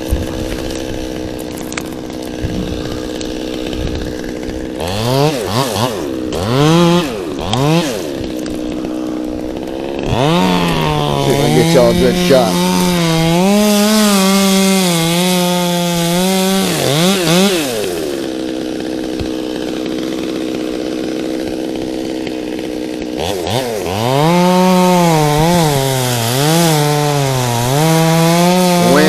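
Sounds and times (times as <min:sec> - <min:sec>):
chainsaw revving and idling: 0:00.0 - 0:29.0.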